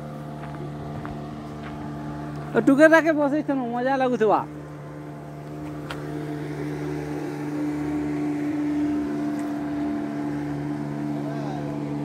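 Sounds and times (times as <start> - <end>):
speedboat engine drone: 0.0 - 12.0.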